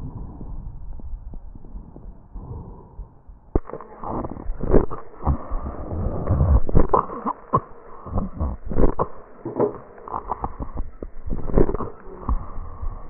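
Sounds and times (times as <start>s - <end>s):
sharp breath crackles: 1.6s - 13.0s
breathing through stethoscope: 1.7s - 13.0s.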